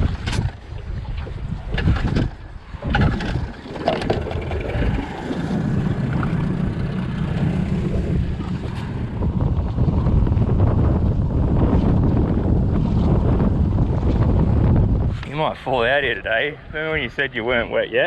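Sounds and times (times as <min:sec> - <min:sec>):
outboard motor running: 0:00.0 - 0:15.0
wind buffeting microphone: 0:00.0 - 0:18.0.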